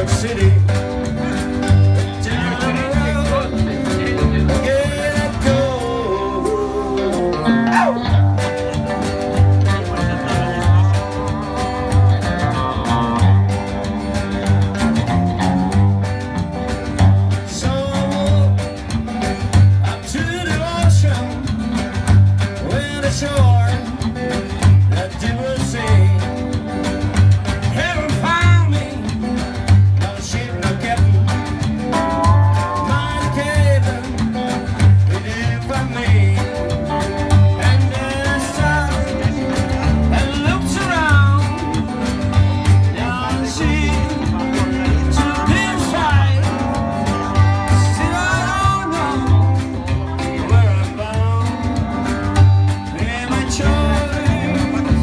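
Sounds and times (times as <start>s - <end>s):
drums: 0.0s - 55.0s
electric guitar: 0.0s - 55.0s
upright double bass walking: 0.0s - 55.0s.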